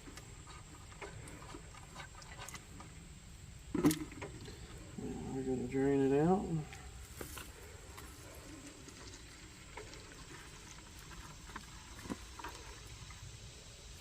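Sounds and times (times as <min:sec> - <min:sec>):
oil trickling into a bucket: 0:00.0 - 0:05.0, 0:06.6 - 0:14.0.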